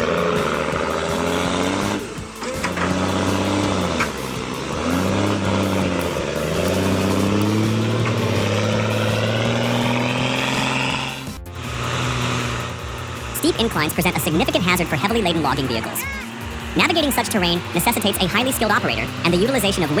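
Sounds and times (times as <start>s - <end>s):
truck diesel engine revving: 0.0s - 20.0s.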